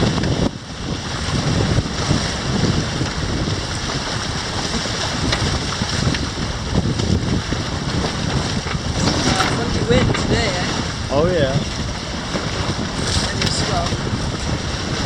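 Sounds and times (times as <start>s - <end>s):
water splashing along hulls: 0.0s - 15.0s
wind buffeting the microphone: 0.0s - 15.0s.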